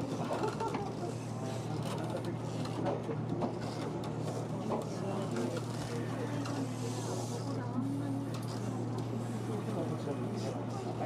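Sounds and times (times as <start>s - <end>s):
faint voices murmuring: 0.0s - 11.0s.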